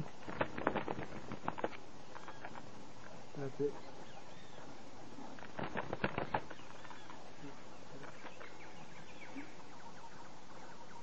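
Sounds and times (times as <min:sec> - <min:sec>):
faint bird chirps: 0:00.8 - 0:11.0.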